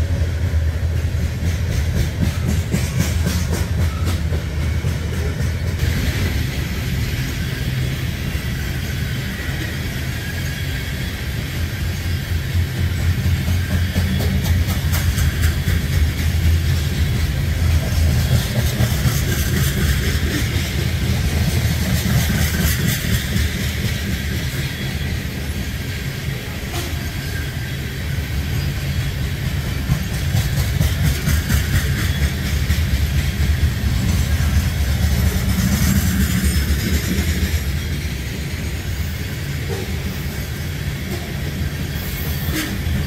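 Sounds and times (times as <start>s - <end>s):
freight cars rumbling: 0.0s - 43.0s.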